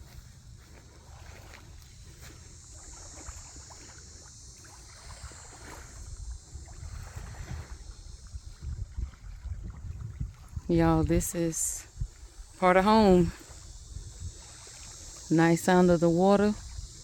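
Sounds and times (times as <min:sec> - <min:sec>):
high insect buzz: 0:00.0 - 0:17.0
water lapping against a dock: 0:00.0 - 0:17.0
wind rumbling on microphone: 0:00.0 - 0:17.0.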